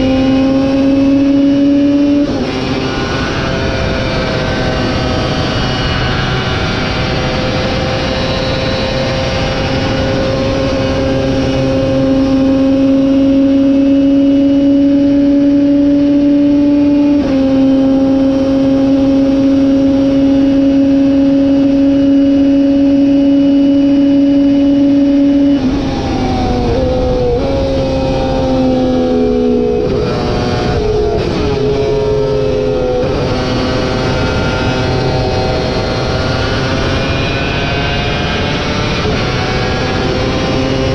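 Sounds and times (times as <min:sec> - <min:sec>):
motorcycle downshifts: 0:00.0 - 0:40.9
motorcycle engine at high revs: 0:00.0 - 0:40.9.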